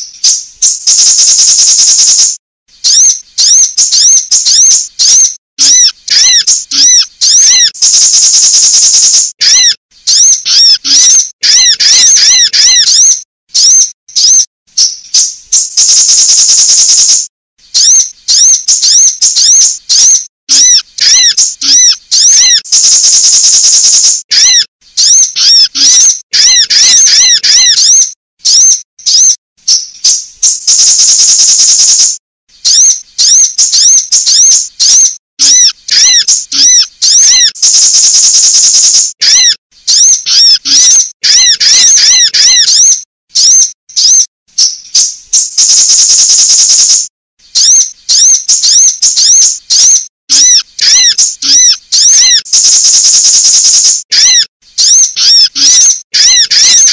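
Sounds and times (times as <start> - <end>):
bird chirps: 0.0 - 56.9
buzzy bird trill: 0.0 - 56.9.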